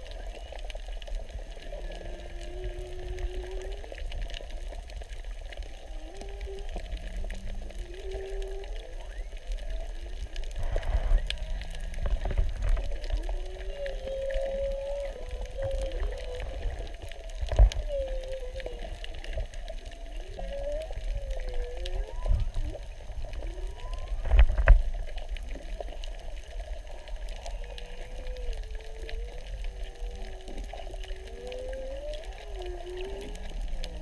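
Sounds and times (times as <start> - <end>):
low rumble of water: 0.0 - 34.0
whale moaning calls: 0.0 - 34.0.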